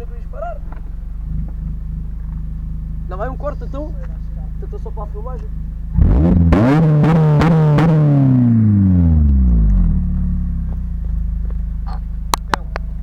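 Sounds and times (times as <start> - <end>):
car engine revving and idling: 0.0 - 13.0
exhaust cracks: 0.0 - 13.0.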